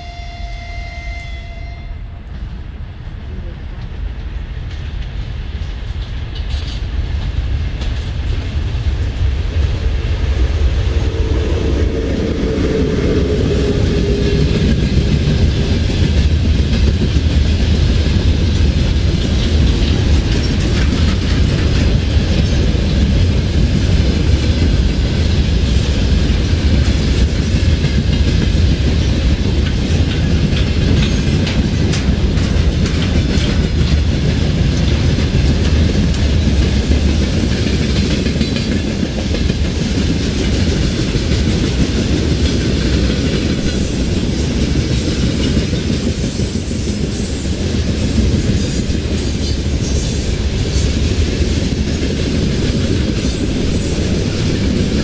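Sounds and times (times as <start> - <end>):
freight train rumble: 0.0 - 55.0
wheels clacking over rail joints: 10.9 - 55.0.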